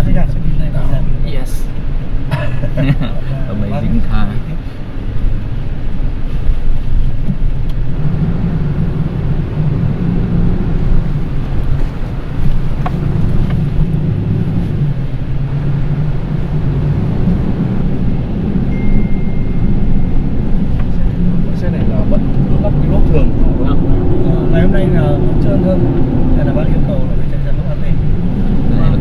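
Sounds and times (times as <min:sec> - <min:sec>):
pickup engine running: 0:00.0 - 0:29.0.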